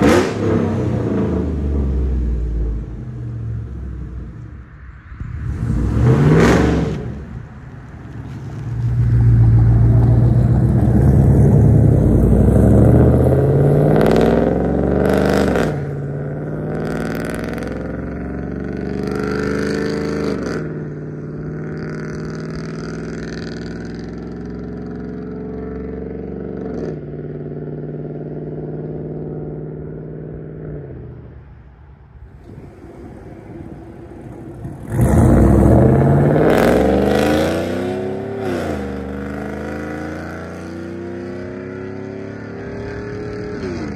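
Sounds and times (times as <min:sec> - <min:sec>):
truck engine accelerating: 0:00.0 - 0:04.6, 0:05.2 - 0:31.4, 0:32.2 - 0:43.9.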